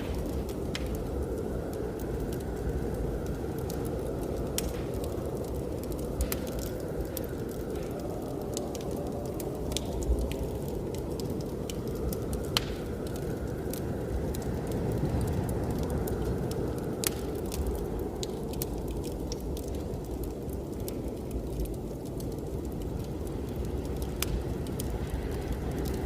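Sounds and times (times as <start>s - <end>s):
blizzard wind rushing: 0.0s - 26.0s
wood fire crackling: 0.0s - 26.0s.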